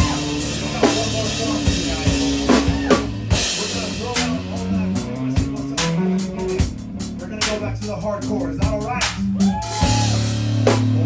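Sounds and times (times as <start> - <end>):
drum kit hits: 0.0 - 11.0
instrumental band playing: 0.0 - 11.0.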